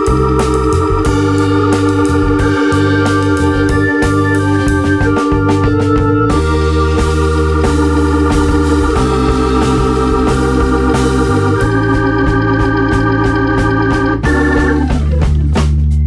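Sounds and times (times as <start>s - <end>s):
organ-like keyboard chords: 0.0s - 16.0s
steady beat: 0.0s - 16.0s.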